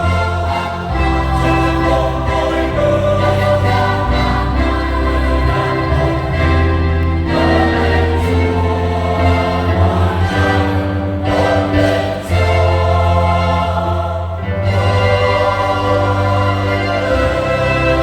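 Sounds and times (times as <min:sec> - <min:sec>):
choir singing a hymn: 0:00.0 - 0:18.0
instrumental accompaniment: 0:00.0 - 0:18.0.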